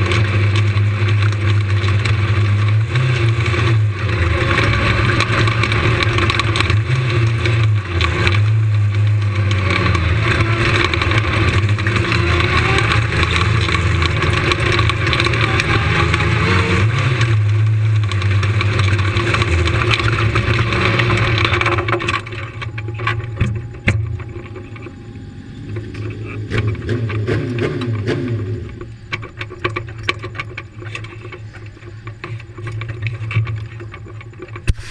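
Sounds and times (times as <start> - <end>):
clicks and rattles: 0.0 - 34.9
engine running at low revs: 0.0 - 34.9.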